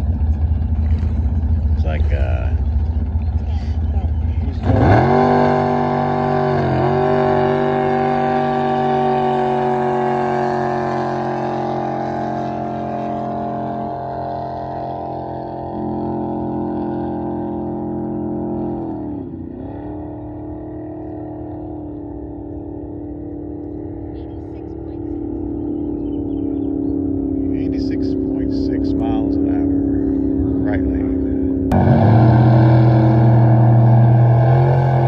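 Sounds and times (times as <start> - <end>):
boat engine at full throttle: 0.0 - 35.0.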